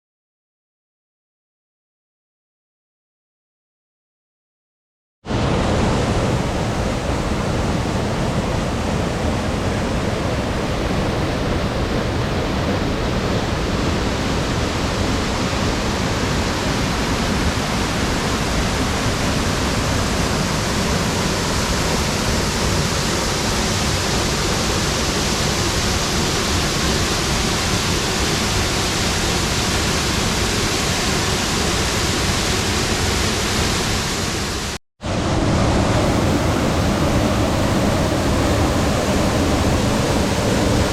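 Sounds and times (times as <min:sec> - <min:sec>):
waterfall rushing: 0:05.3 - 0:40.9.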